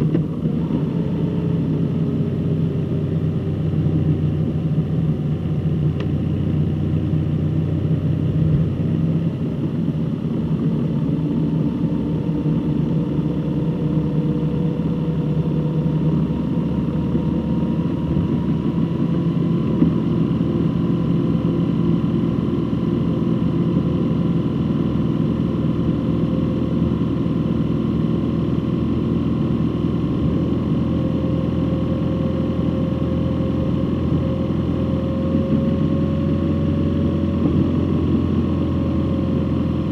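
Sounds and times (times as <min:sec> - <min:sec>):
road noise: 0:00.0 - 0:39.9
vehicle engine hum: 0:00.0 - 0:39.9.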